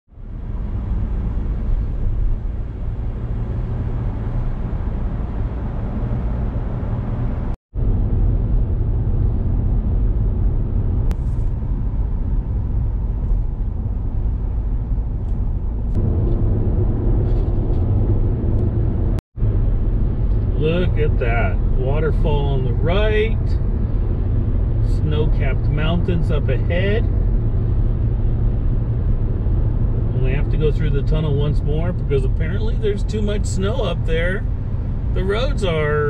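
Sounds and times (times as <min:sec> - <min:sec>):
car engine rumbling: 0:00.1 - 0:36.0
tyres on road: 0:00.1 - 0:36.0.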